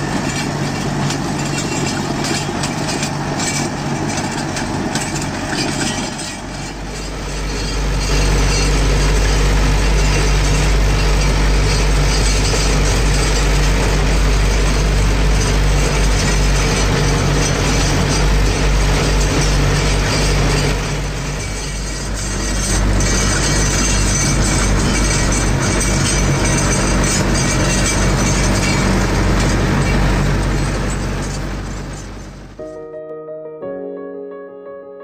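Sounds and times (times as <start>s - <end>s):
rotavator clattering: 0.0s - 32.6s
tractor diesel engine: 0.0s - 32.8s.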